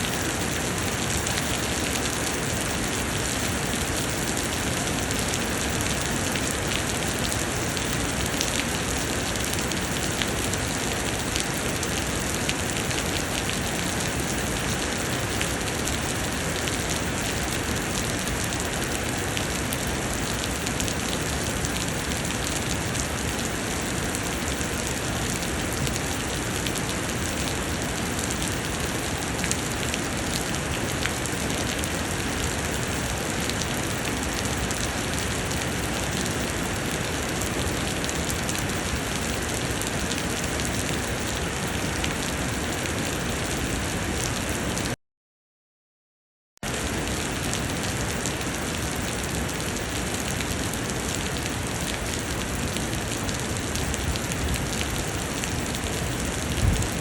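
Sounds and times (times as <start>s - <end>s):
heavy rain pouring: 0.0s - 45.0s, 46.6s - 57.0s.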